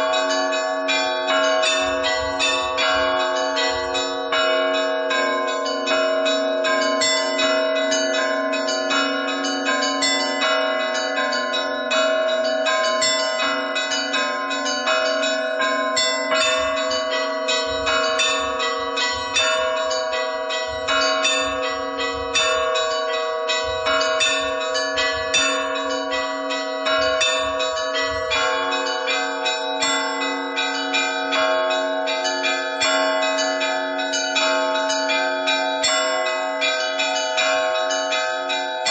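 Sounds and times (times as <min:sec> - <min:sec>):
deep bells ringing: 0:00.0 - 0:38.9
high church bells striking: 0:00.0 - 0:38.9.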